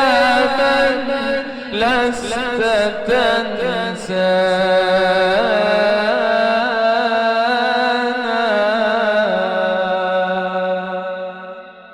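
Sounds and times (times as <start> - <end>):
solo voice chanting melisma: 0.0 - 11.9.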